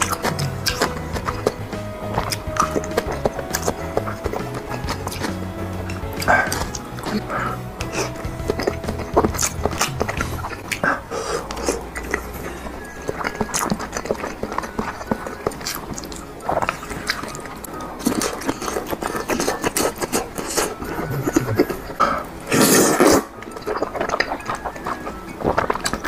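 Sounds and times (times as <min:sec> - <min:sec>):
chewing noodles with mouth smacks: 0:00.0 - 0:26.0.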